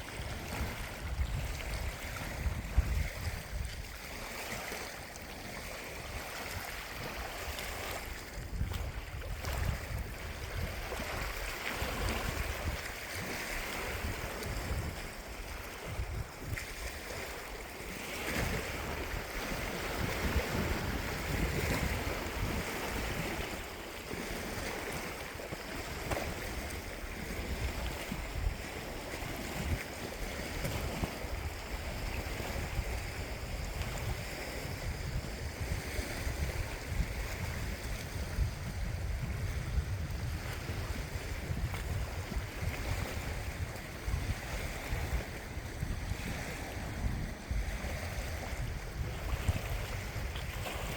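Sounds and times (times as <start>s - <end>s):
lake water: 0.0s - 50.9s
wind buffeting microphone: 0.0s - 50.9s.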